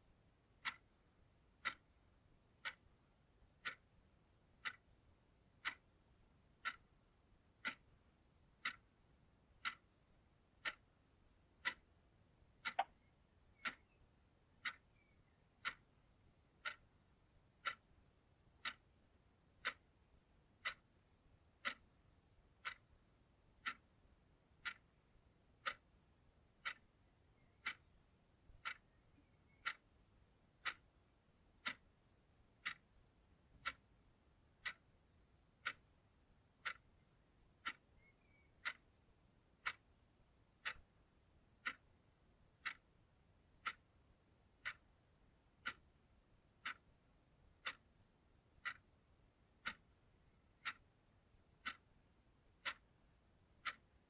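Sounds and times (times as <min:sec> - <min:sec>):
clock ticking: 0:00.4 - 0:54.0.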